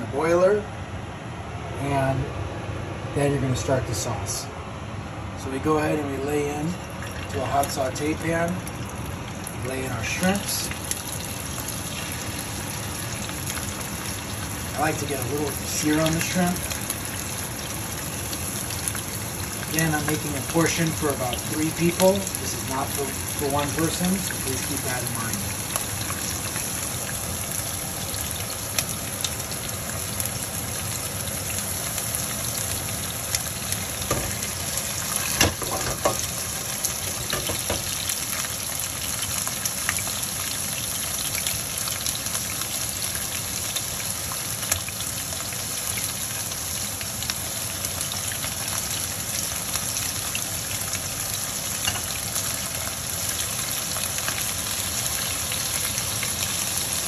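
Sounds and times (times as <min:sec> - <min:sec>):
shrimp sizzling in oil: 0:06.7 - 0:57.0.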